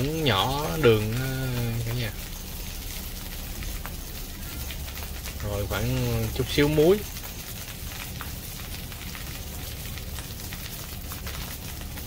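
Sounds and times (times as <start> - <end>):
food frying in oil: 0.0 - 12.0
low hum: 0.0 - 12.0.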